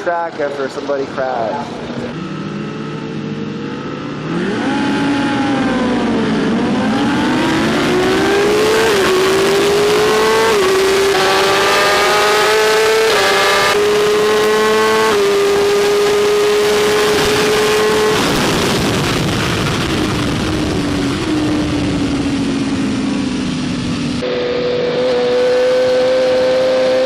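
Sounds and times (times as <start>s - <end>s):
motorcycle engine accelerating: 1.5s - 27.0s.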